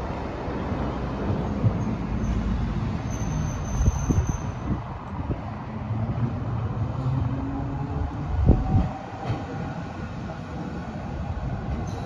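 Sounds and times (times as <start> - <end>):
tram rumble and motor hum: 0.0 - 12.0.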